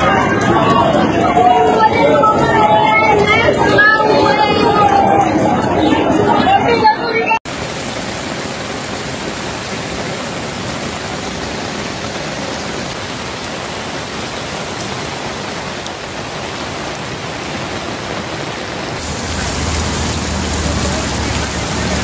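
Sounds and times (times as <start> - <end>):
heavy rain on water: 0.0 - 22.0.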